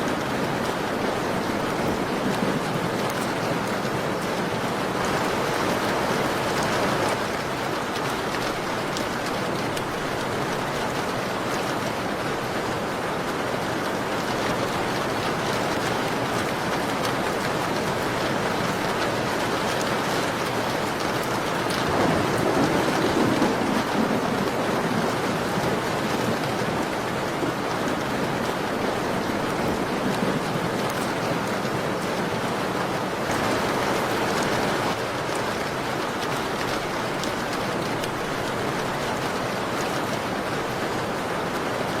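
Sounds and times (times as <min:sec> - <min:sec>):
rain on a window: 0:00.0 - 0:42.0.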